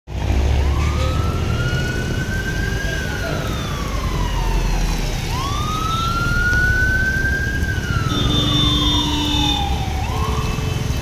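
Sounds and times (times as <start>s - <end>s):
emergency siren wailing: 0.3s - 11.0s.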